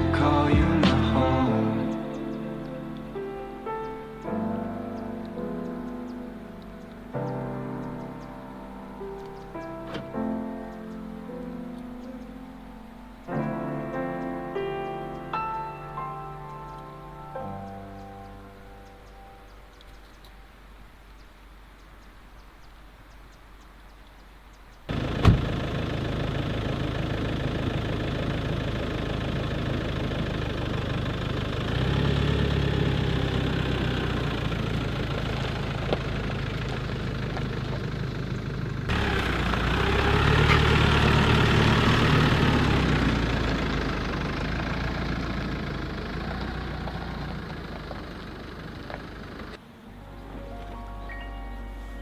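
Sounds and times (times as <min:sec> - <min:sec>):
engine humming: 0:00.0 - 0:21.7, 0:24.9 - 0:52.0.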